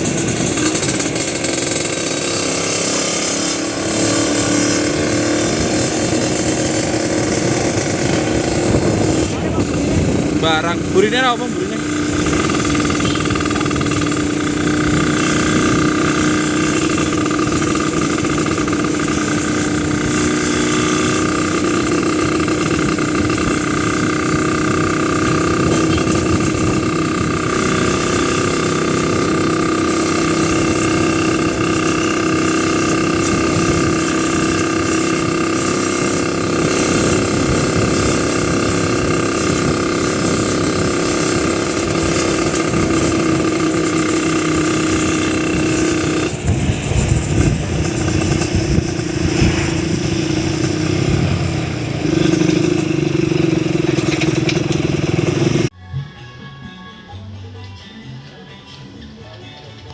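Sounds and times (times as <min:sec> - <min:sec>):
motorcycle engine running: 0:00.0 - 0:55.8.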